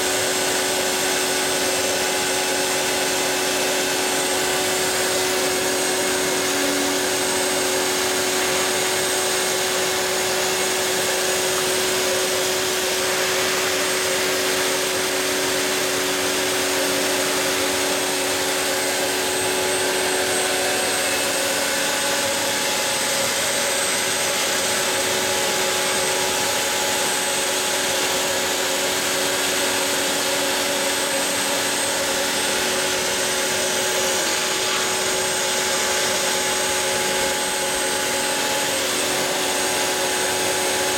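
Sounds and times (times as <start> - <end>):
router spindle whining: 0.0 - 40.9
vacuum nozzle hissing: 1.5 - 40.9.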